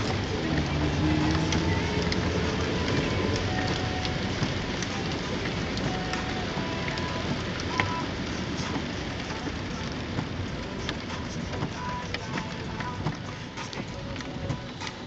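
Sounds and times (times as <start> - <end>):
heavy rain on car: 0.0 - 15.0
low road noise: 0.0 - 15.0.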